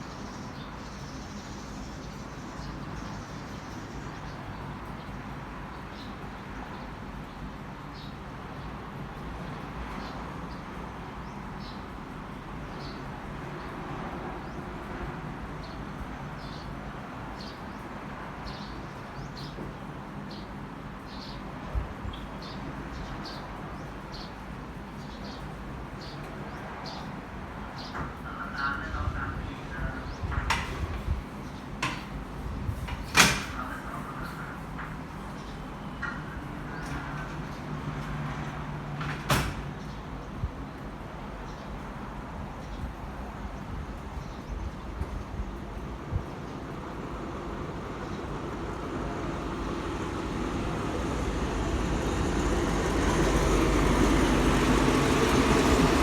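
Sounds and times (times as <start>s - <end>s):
train diesel engine rumble: 0.0s - 39.0s, 39.6s - 56.0s.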